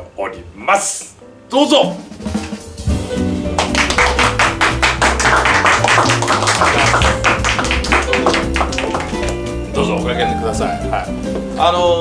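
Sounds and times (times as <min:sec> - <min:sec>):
music with percussive beat and bass: 0:01.8 - 0:11.5.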